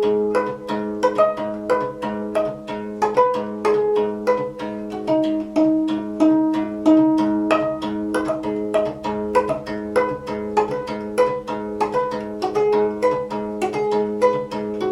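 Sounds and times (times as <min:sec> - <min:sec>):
plucked zither notes: 0:00.0 - 0:14.9.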